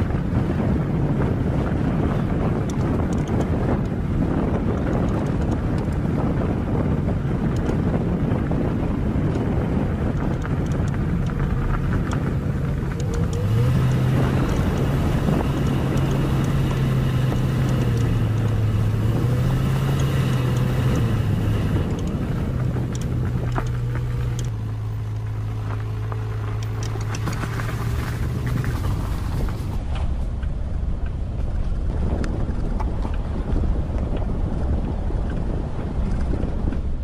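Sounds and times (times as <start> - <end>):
low engine drone: 0.0 - 37.0.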